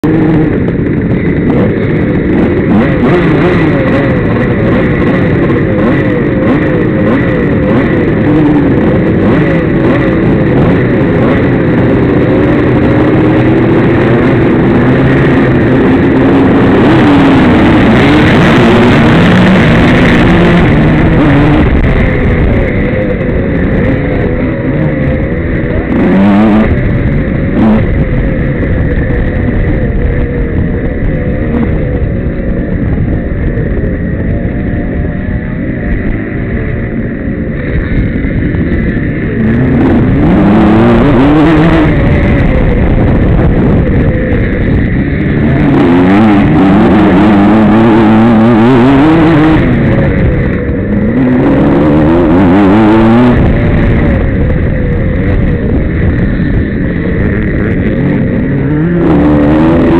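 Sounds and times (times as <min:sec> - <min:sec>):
motorcycles revving: 0:00.0 - 0:59.9.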